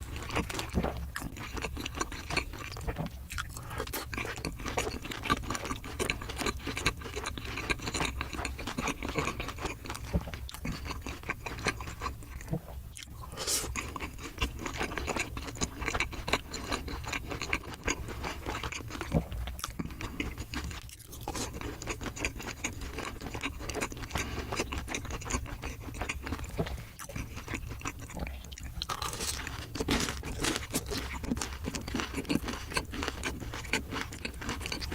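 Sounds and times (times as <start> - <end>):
chewing crispy food: 0.0 - 34.9.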